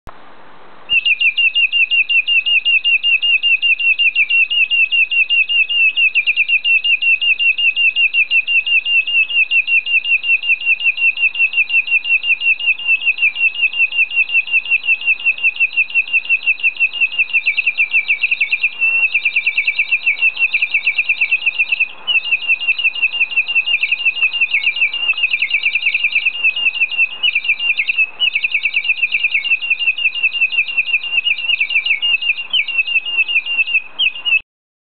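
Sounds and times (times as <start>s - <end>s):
water bird whistle trilling: 0.9s - 34.4s.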